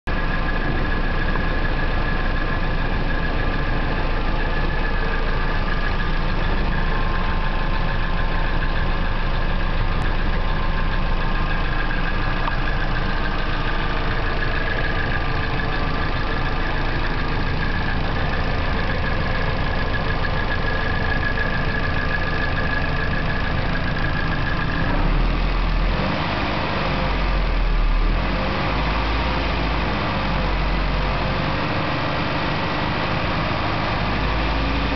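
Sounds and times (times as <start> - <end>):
car engine idling: 0.1 - 34.9
engine ticking: 0.1 - 34.9.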